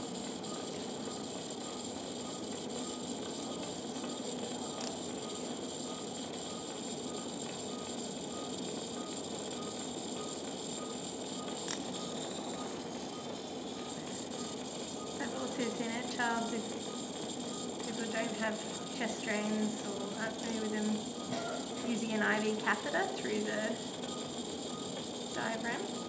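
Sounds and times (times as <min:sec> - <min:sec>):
monitor beeping: 0:00.0 - 0:26.0.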